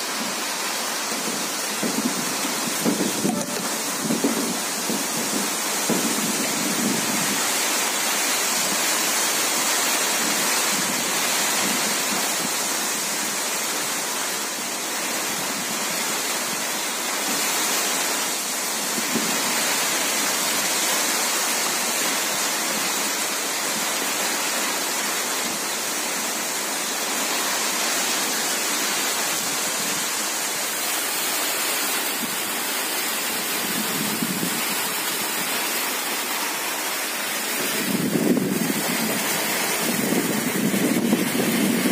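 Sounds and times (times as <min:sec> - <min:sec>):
rain on umbrella: 0:00.0 - 0:41.9.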